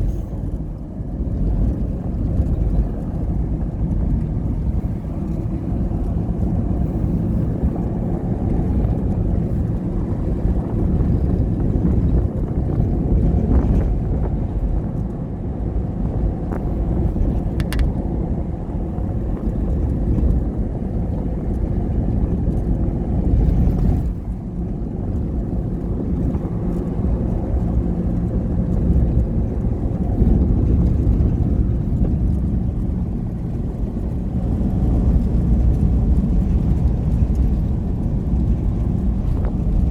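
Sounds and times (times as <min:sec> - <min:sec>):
vehicle rumbling: 0:00.0 - 0:39.9
wind noise on microphone: 0:00.0 - 0:39.9.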